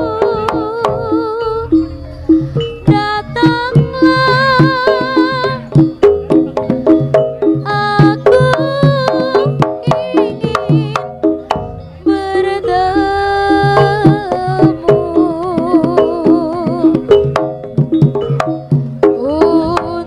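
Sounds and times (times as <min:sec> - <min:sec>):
gamelan ensemble playing: 0:00.0 - 0:20.0
hand drum strokes: 0:00.0 - 0:20.0.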